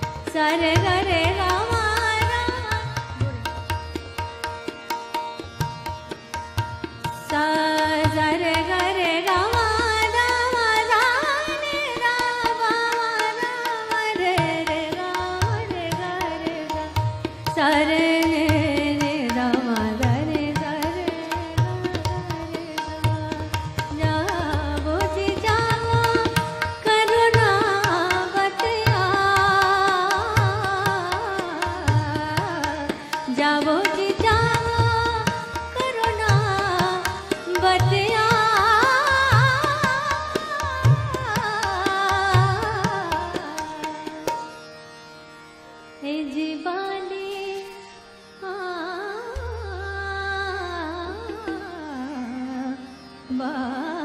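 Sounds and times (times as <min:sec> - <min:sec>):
woman singing: 0:00.0 - 0:04.0, 0:07.1 - 0:44.4, 0:46.0 - 0:47.8, 0:48.4 - 0:54.0
tabla strokes: 0:00.0 - 0:44.5
tanpura drone: 0:00.0 - 0:54.0.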